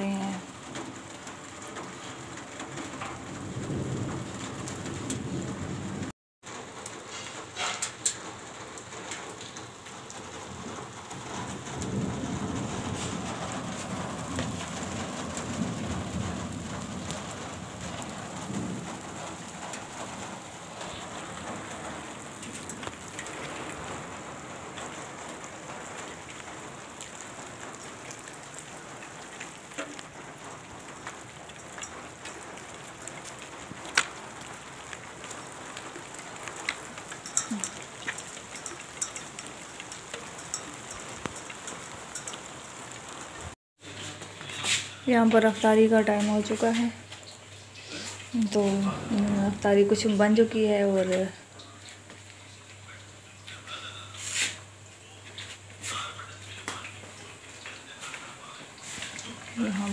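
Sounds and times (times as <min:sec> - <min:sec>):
rain on concrete rooftop: 0:00.0 - 0:59.9.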